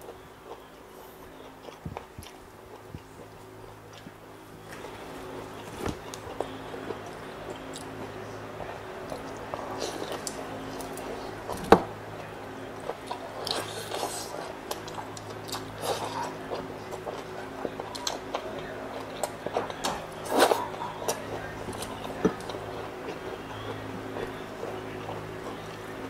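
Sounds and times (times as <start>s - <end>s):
steady low hum: 0.0s - 26.0s
wet chewing of meat: 0.0s - 26.0s.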